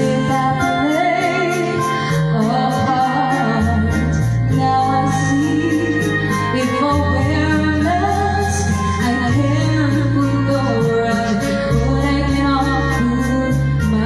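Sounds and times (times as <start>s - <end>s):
karaoke backing track: 0.0s - 14.0s
woman singing into a microphone: 0.0s - 14.0s.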